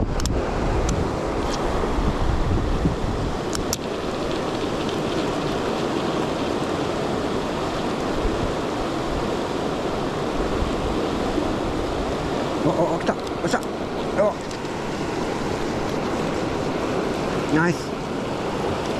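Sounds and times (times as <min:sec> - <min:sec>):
river water rushing: 0:00.4 - 0:18.9.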